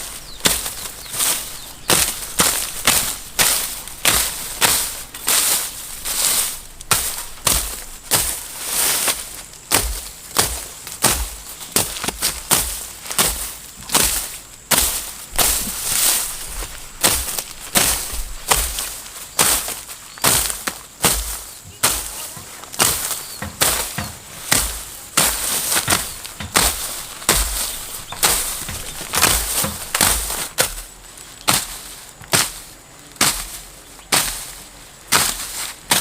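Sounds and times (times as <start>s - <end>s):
hand tool chopping: 0.0s - 8.4s, 9.7s - 32.6s, 33.2s - 36.0s.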